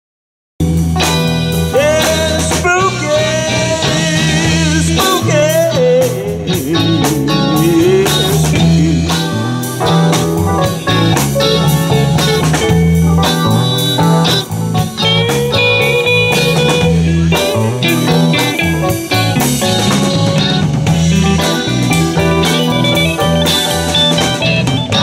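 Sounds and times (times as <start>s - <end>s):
bass guitar: 0.6s - 25.0s
drum kit: 0.6s - 25.0s
electric guitar lead: 0.6s - 25.0s
keyboard: 0.6s - 25.0s.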